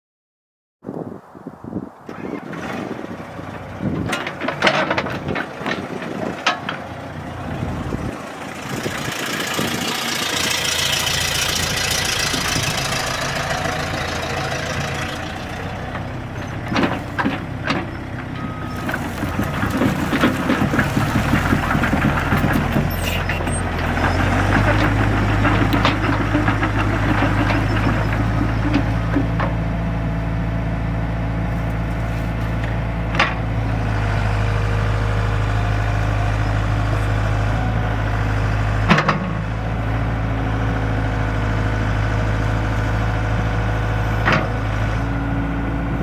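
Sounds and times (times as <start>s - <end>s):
excavator diesel engine: 2.1s - 46.0s.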